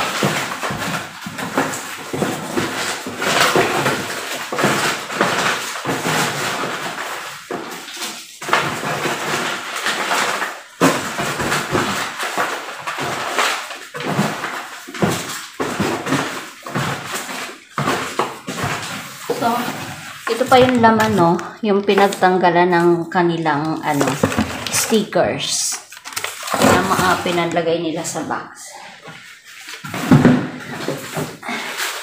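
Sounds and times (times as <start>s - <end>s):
paper and cardboard crinkling: 0.0s - 32.0s.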